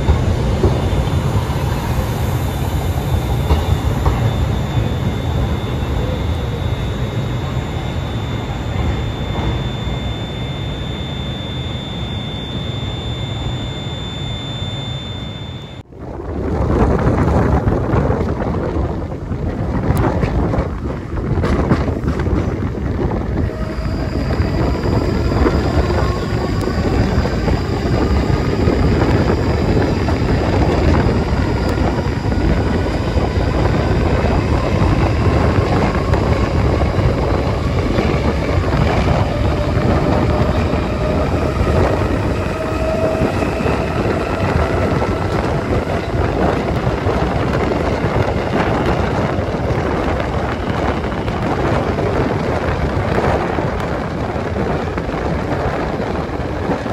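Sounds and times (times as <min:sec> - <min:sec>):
faint whine rising in pitch: 0:00.0 - 0:16.3, 0:23.2 - 0:53.9
train running: 0:00.0 - 0:56.9.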